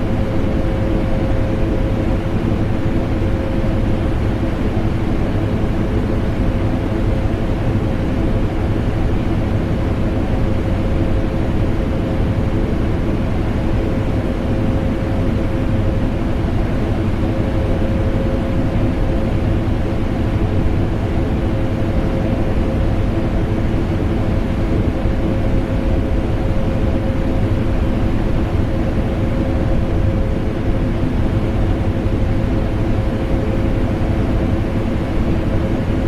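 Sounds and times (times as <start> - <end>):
air conditioner drone: 0.0 - 36.0.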